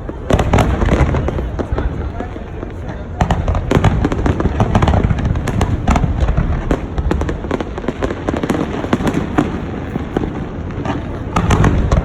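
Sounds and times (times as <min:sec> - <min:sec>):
fireworks cracking and popping: 0:00.0 - 0:12.0
low rumble of booming shells: 0:00.2 - 0:12.0.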